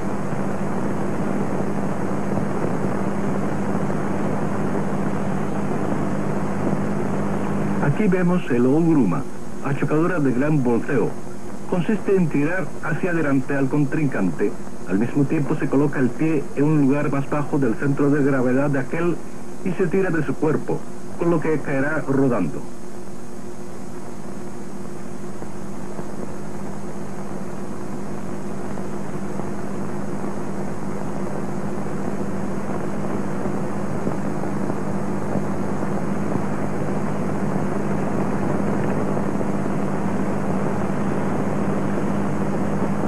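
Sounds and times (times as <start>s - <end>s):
droning hum: 0.0s - 43.0s.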